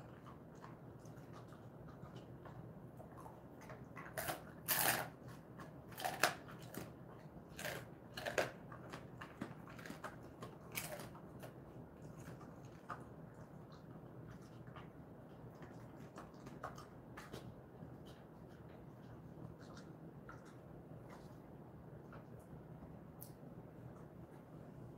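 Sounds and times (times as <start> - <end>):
dog crunching a dry treat: 0.0 - 22.4.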